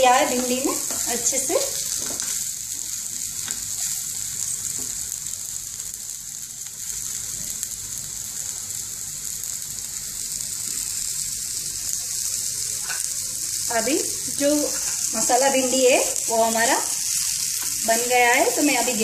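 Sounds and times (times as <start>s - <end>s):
okra sizzling in a pan: 0.0s - 19.0s.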